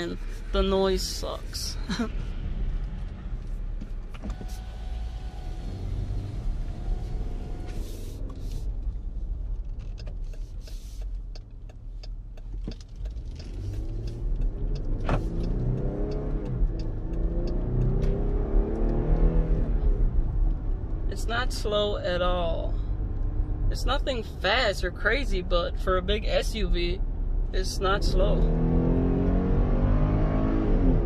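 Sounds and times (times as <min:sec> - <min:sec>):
car engine rumble from cabin: 0:00.0 - 0:31.0.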